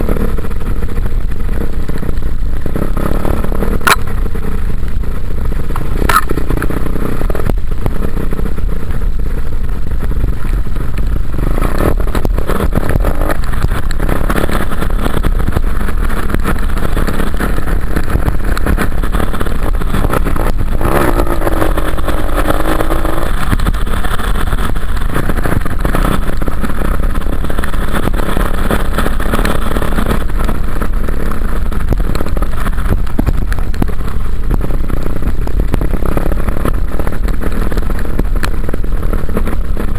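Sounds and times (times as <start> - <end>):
dirt bike engine revving: 0.0 - 38.2.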